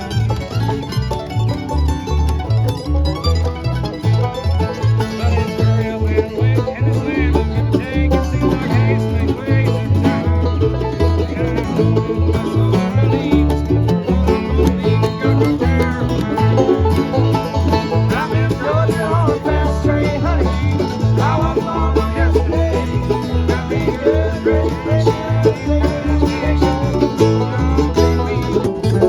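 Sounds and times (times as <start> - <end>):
banjo picking: 0.0 - 29.0
bass line: 0.0 - 29.0
bluegrass band playing: 0.0 - 29.0.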